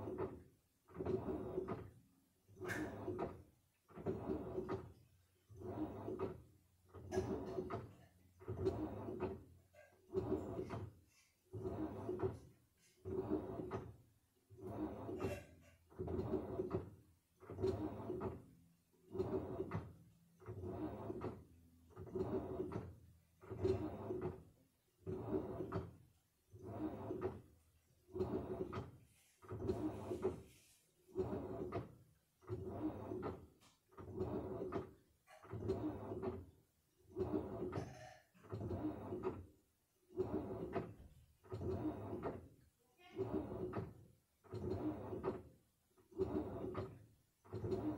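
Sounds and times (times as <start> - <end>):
washing machine sloshing: 0.0 - 47.9.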